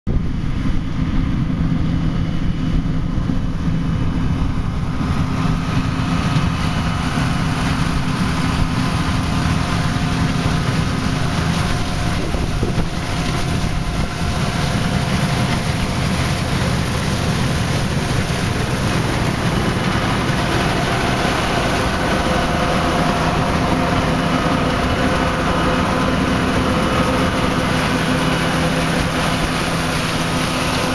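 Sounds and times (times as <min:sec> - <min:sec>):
engine drone: 0:00.1 - 0:30.9
threshing machinery noise: 0:00.3 - 0:30.9.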